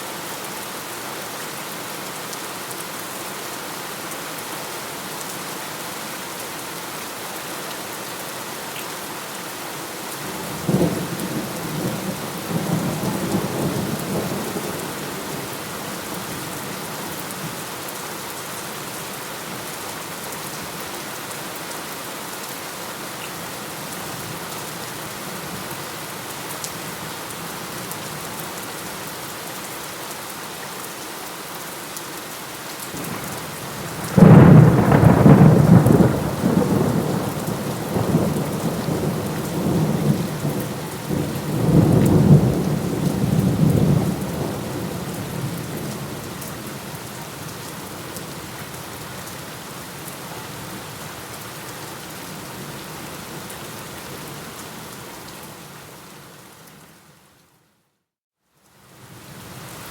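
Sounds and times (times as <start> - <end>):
heavy rain: 0.0 - 57.3.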